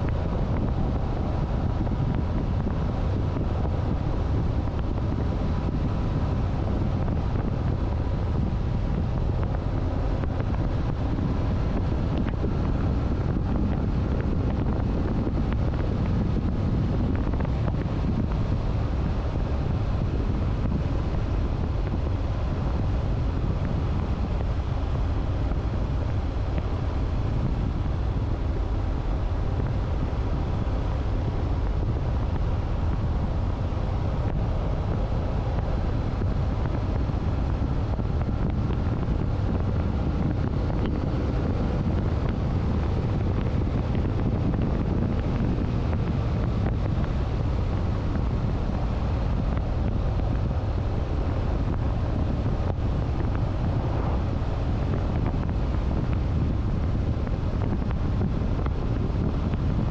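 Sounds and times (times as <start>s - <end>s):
motorcycle engine hum: 0.0s - 59.9s
wind rushing over microphone: 0.0s - 59.9s.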